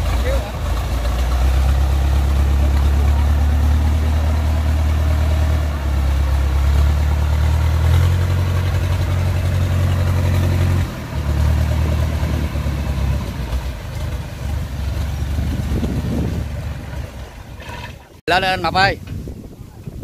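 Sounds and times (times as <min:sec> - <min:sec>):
combine harvester diesel engine: 0:00.0 - 0:19.0.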